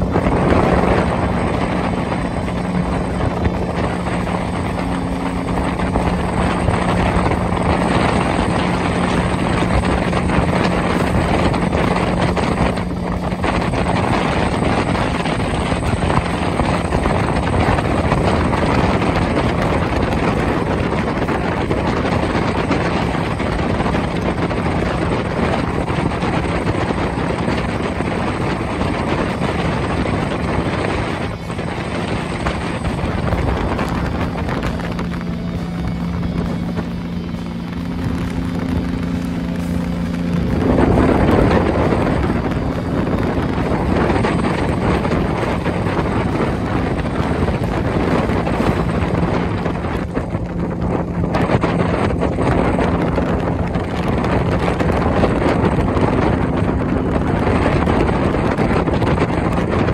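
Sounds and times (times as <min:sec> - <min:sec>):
jet boat engine: 0:00.0 - 0:59.9
rushing water: 0:00.0 - 0:59.9.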